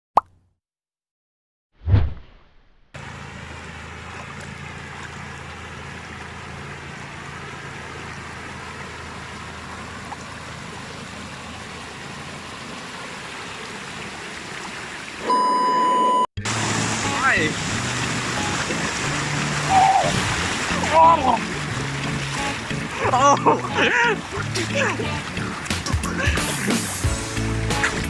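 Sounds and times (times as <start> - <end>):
stream water flowing over rapids: 3.0 - 15.4, 16.4 - 28.0.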